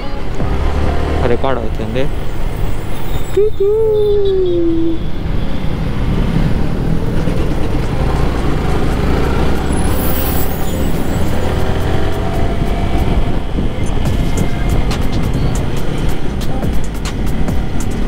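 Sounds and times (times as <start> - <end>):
bus engine: 0.0 - 18.0
road and wind noise: 0.0 - 18.0.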